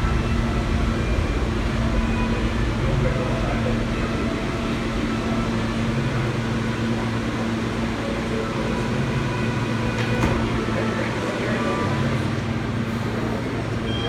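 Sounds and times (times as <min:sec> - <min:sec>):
subway train humming: 0:00.0 - 0:14.0.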